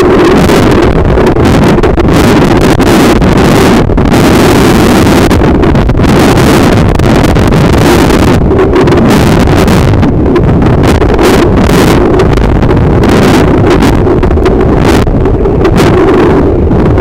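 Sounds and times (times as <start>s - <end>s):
muffled underwater water rushing: 0.0s - 17.0s.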